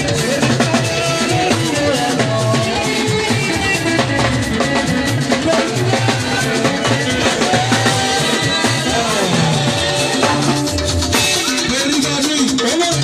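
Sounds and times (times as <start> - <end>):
drum kit: 0.0 - 13.0
gospel band music: 0.0 - 13.0
guitar: 0.0 - 13.0.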